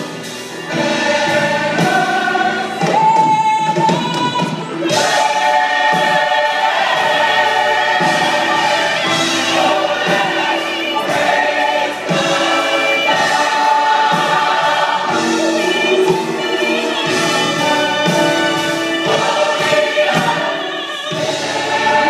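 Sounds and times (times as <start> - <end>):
choir singing gospel: 0.0 - 22.0.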